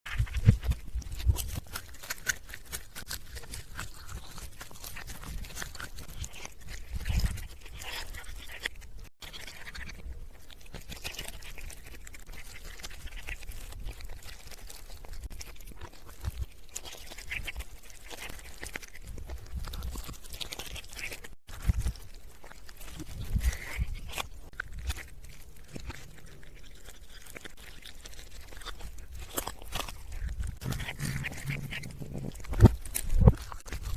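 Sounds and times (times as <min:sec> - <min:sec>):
cat chewing and crunching bone: 0:00.1 - 0:33.9.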